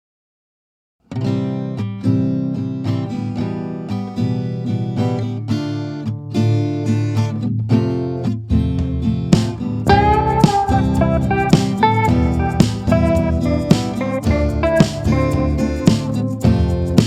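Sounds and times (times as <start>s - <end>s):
acoustic guitar strumming: 1.1s - 17.0s.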